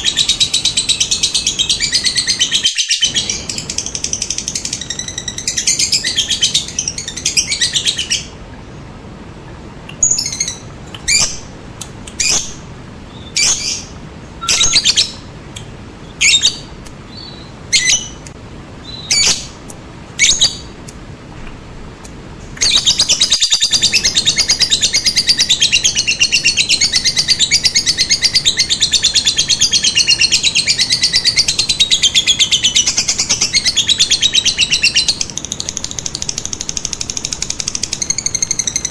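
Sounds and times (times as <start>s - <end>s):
lovebird calling and chattering: 0.0s - 8.4s, 9.8s - 20.9s, 22.5s - 38.9s.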